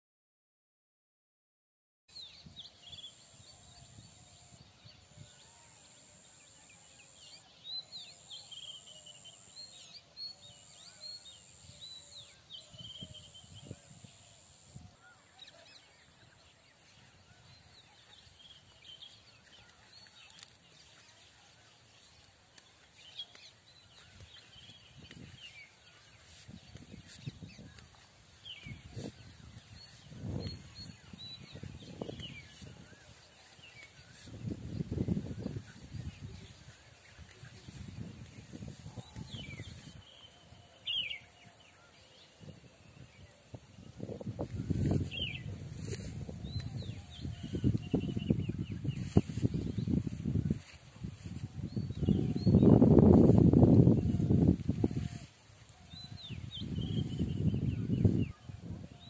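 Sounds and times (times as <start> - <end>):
small birds chirping: 11.0 - 58.8.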